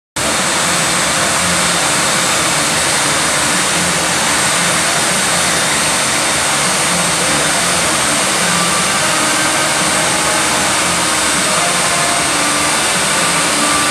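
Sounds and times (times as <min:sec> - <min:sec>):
jet engine running: 0:00.2 - 0:13.9.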